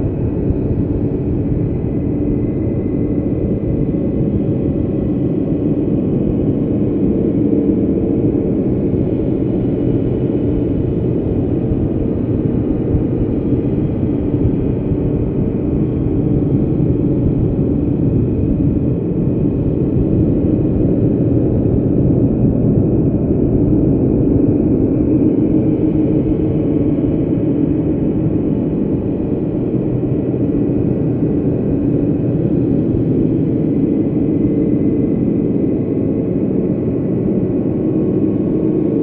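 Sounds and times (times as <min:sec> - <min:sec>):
low rumbling drone: 0:00.0 - 0:39.0.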